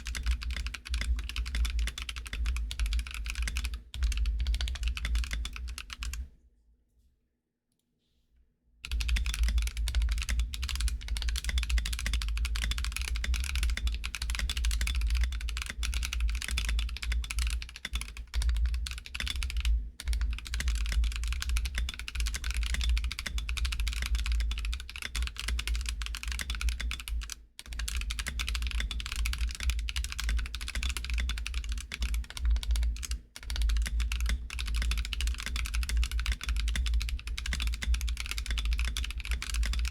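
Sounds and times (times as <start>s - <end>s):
fast typing on mechanical keyboard: 0.0s - 6.3s, 8.8s - 39.9s.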